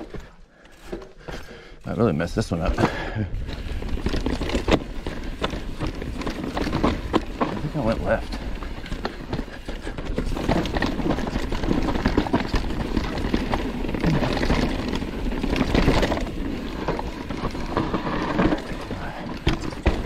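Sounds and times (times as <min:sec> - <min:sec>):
bike rattling over bumps: 0:00.0 - 0:20.0
tyres on dirt: 0:00.0 - 0:20.0.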